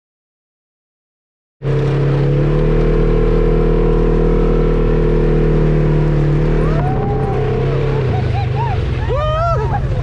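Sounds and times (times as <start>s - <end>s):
quad bike engine running: 1.6s - 10.0s.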